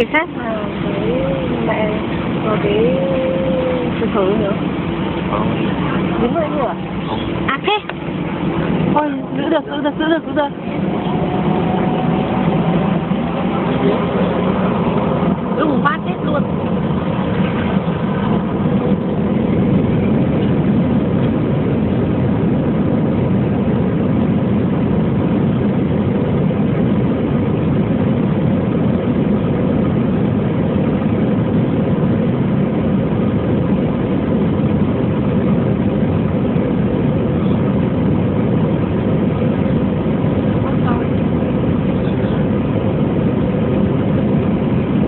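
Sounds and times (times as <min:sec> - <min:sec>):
jet engine cabin rush: 0:00.0 - 0:45.0.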